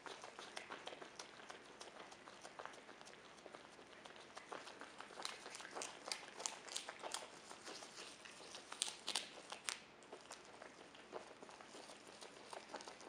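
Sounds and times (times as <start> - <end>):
animal chewing crisp kale: 0.0 - 13.0.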